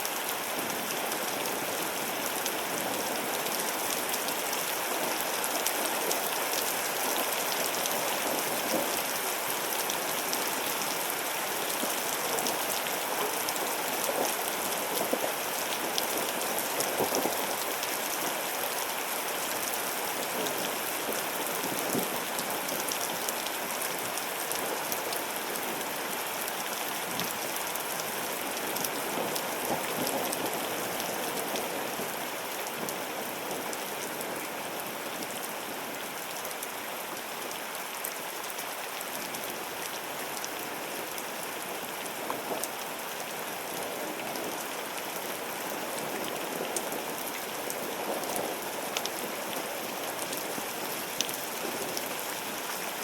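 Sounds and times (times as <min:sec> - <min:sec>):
rain falling steadily: 0:00.0 - 0:53.0.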